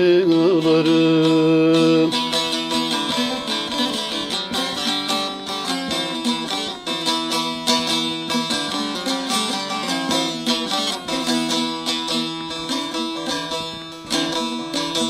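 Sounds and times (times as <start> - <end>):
long-necked lute plucked fast: 0.0 - 15.0.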